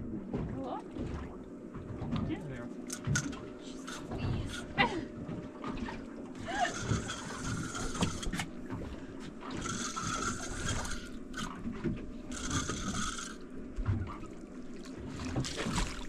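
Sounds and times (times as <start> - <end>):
fishing reel gear whir: 2.8 - 16.0.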